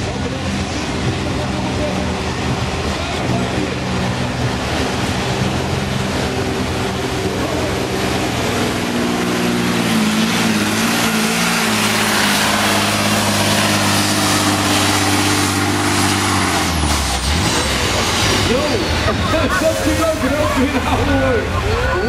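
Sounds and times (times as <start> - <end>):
broad rushing noise: 0.0 - 22.0
diesel truck engine running: 0.0 - 22.0.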